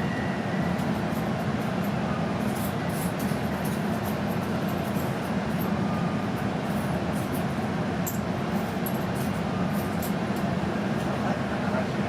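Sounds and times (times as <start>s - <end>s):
train cabin rumble and hum: 0.0s - 12.0s.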